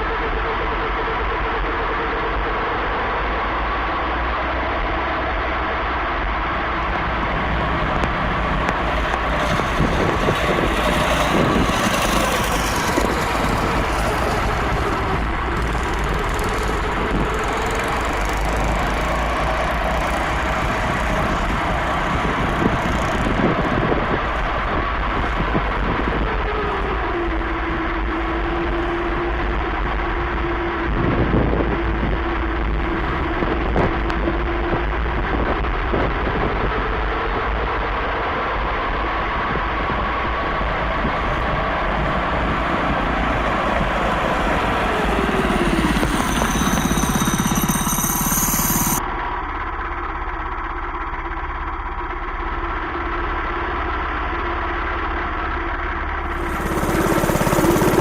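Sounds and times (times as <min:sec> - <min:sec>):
go-kart engine running: 0:06.2 - 0:58.0.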